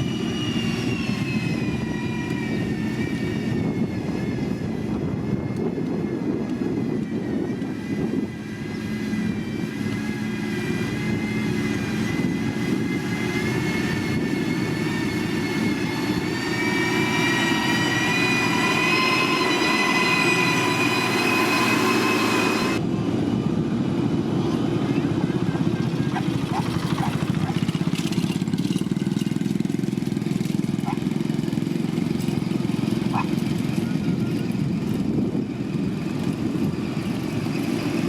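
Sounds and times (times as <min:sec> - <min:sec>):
heavy machinery engine running: 0:00.0 - 0:38.0
high machine whine: 0:00.0 - 0:38.0.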